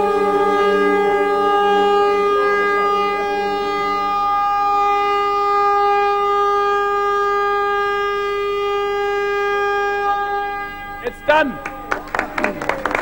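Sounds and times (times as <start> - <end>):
steady siren-like tone: 0.0 - 13.0.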